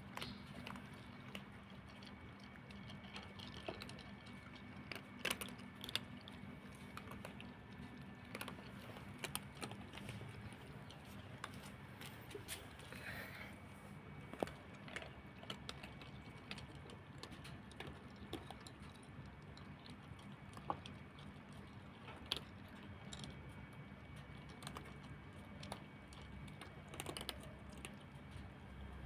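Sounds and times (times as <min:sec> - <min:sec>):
cats crunching dry kibble: 0:00.0 - 0:29.0
low steady hum: 0:00.0 - 0:29.0.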